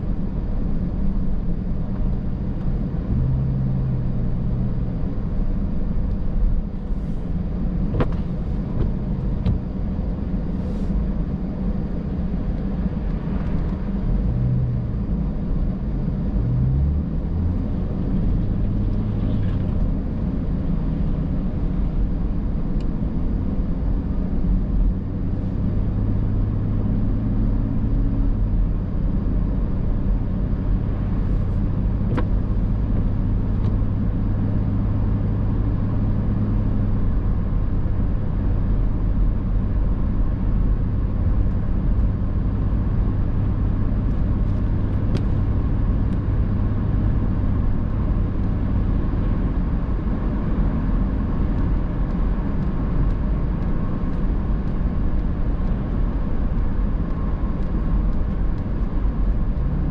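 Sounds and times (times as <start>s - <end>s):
car engine drone inside cabin: 0.0s - 59.9s.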